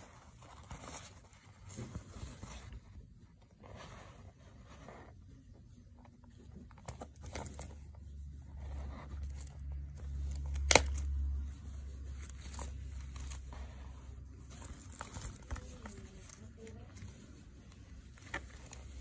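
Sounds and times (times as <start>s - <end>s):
hands rustling wallet: 0.0s - 19.0s.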